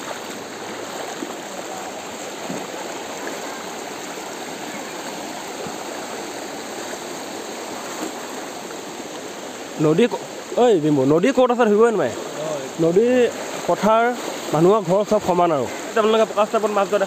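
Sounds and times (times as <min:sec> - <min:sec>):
floodwater rushing over road: 0:00.0 - 0:17.0.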